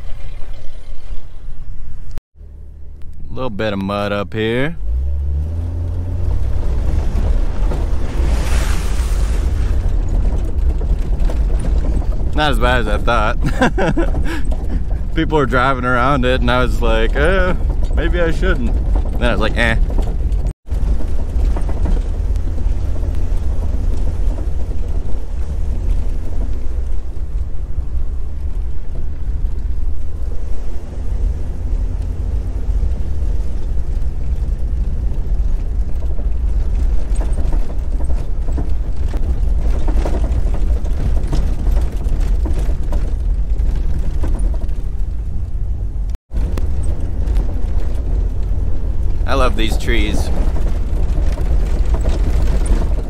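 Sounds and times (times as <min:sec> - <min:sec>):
engine and road rumble: 0:00.0 - 0:53.0.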